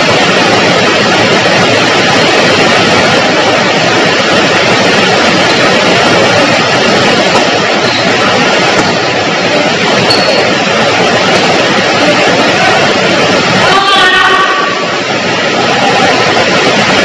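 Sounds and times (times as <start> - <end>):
heavy rain on a roof: 0.0 - 17.0.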